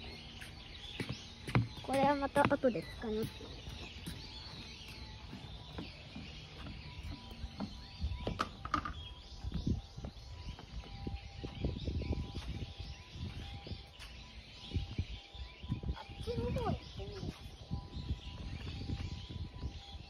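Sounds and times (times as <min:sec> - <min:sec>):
footsteps on wooden boardwalk: 0:00.0 - 0:20.0
small birds chirping: 0:00.0 - 0:20.0.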